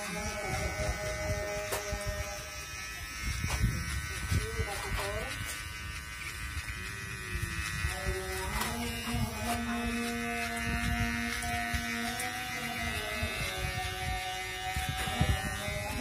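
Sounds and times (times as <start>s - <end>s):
electric hair clipper buzzing: 0.0s - 16.0s
wind rumble on microphone: 0.0s - 16.0s.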